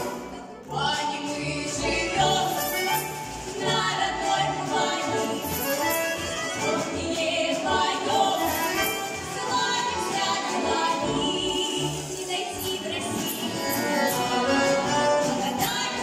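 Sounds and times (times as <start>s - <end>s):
women singing in unison: 0.3s - 3.0s, 3.6s - 14.3s, 15.2s - 16.0s.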